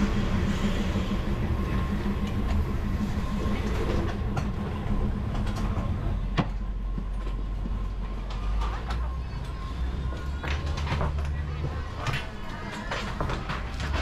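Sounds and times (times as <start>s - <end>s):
train engine and wheel rumble: 0.0s - 14.0s.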